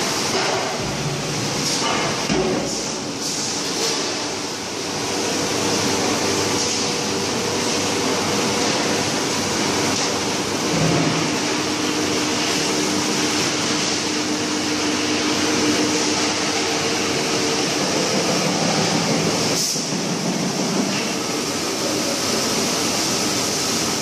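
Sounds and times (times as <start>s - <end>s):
production line machinery running: 0.0s - 24.0s.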